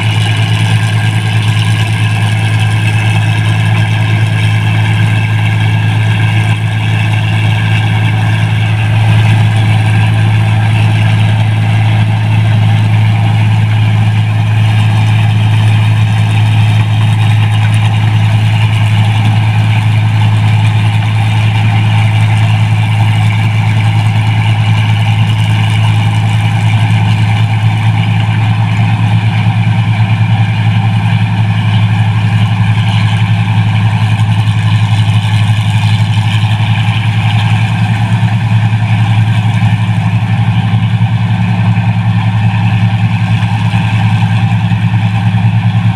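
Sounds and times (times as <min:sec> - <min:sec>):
harvester engine drone: 0:00.0 - 0:45.9.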